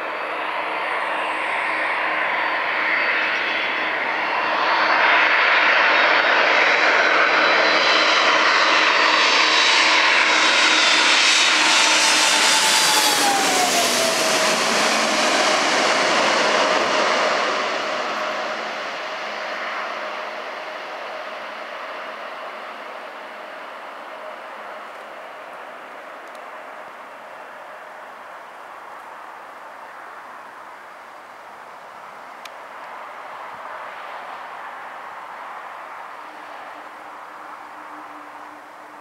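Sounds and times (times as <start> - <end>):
jet engine whine: 0.0 - 39.0
jet engines passing overhead: 0.0 - 39.0.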